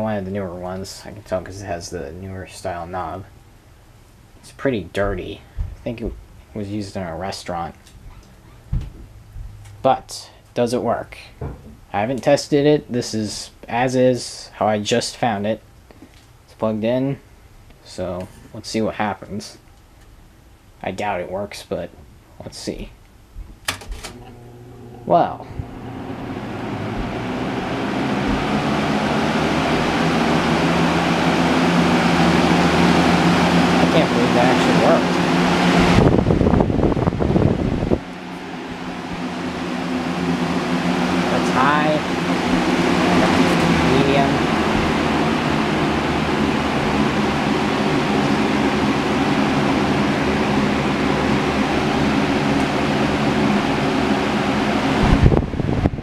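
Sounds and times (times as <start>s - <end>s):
box fan running: 0.0s - 56.0s.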